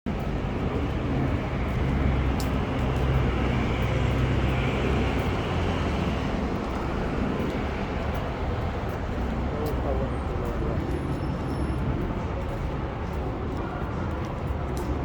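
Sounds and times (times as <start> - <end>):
road noise: 0.1 - 15.0
vehicle engine hum: 0.1 - 15.0.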